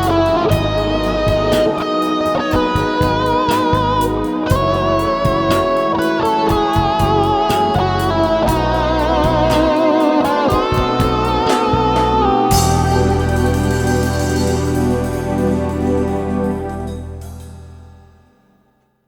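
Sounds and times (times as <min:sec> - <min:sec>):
bass line: 0:00.0 - 0:01.8, 0:02.5 - 0:05.8, 0:06.7 - 0:09.8, 0:10.6 - 0:18.2
electric guitar melody with vibrato: 0:00.0 - 0:18.2.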